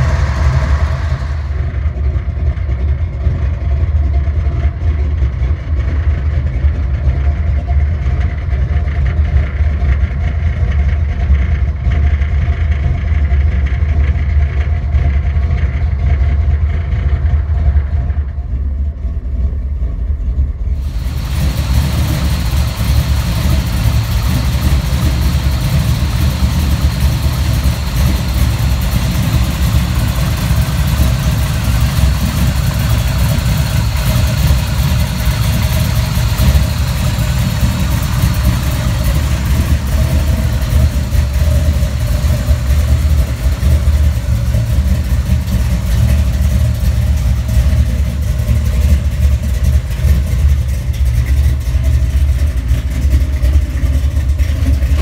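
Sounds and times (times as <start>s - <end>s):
truck engine idling loudly: 0.0s - 55.0s.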